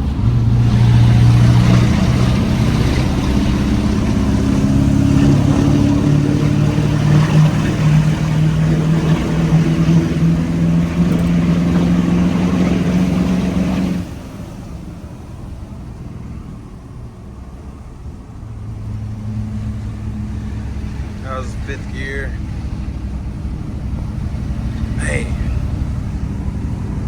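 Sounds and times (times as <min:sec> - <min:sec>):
diesel truck engine under load: 0:00.0 - 0:27.0.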